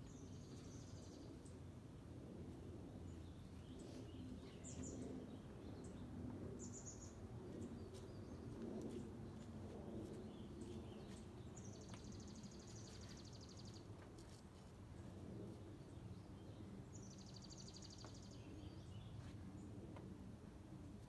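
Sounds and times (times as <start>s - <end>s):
faint birds chirping: 2.8s - 20.0s.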